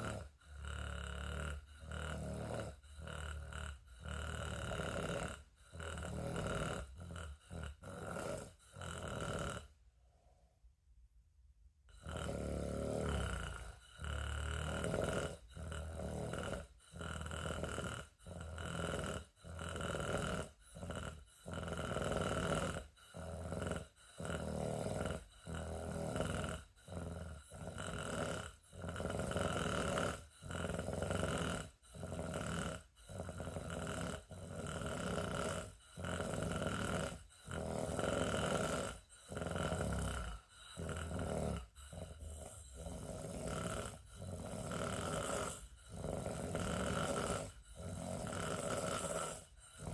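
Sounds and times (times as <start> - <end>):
rhythmic snoring: 0.0 - 9.9, 11.9 - 49.9.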